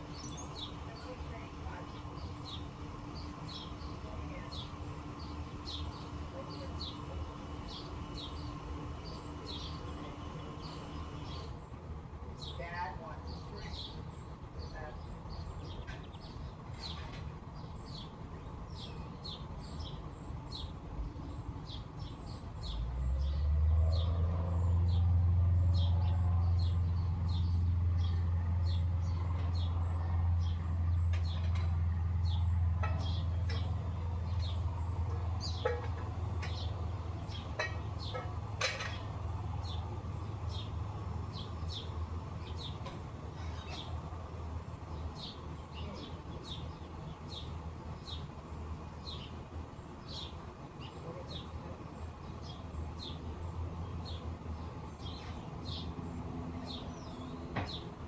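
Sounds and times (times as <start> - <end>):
low engine rumble: 0.0 - 58.0
small birds chirping: 0.0 - 58.0.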